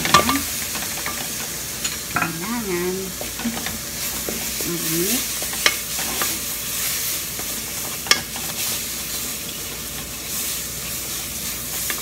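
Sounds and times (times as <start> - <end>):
chicken sizzling: 0.0 - 12.0.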